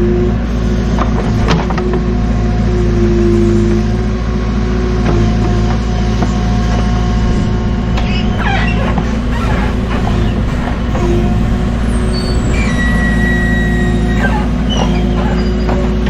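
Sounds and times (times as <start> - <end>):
heavy equipment engine running: 0.0 - 16.0
high metallic squeals: 1.2 - 16.0.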